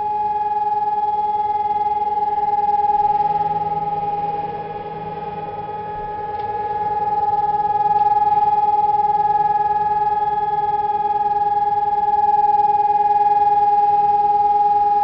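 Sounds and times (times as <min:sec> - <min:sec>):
siren steady tone: 0:00.0 - 0:15.0.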